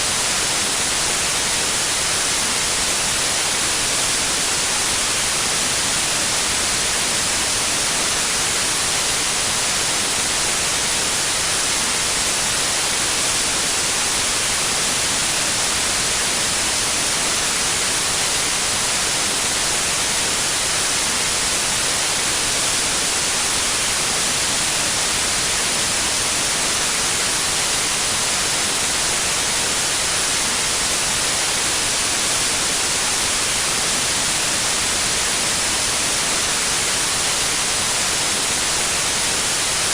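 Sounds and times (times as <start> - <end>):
electronic white noise hiss: 0.0 - 39.9.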